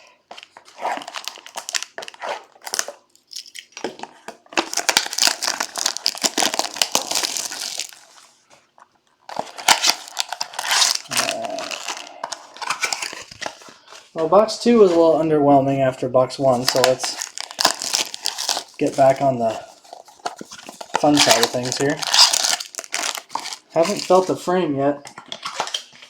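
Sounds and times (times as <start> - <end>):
plastic wrapping crinkling and tearing: 0.0 - 15.2, 16.4 - 24.5, 25.2 - 26.0.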